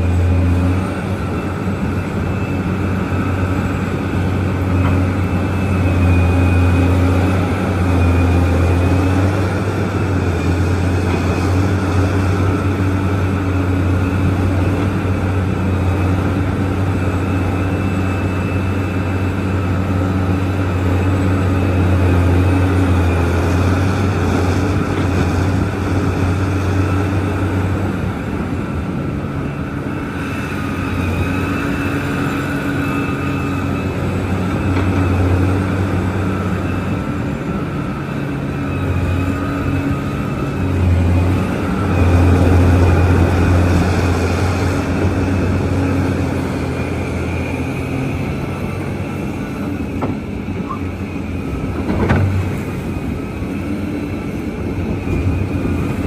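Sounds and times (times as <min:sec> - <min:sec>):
excavator diesel engine droning: 0:00.0 - 0:56.0.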